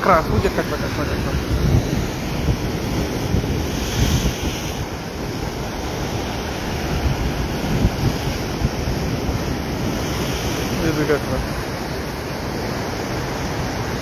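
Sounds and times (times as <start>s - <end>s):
ocean surf breaking over rock: 0.0s - 14.0s
wind buffeting microphone: 0.0s - 14.0s.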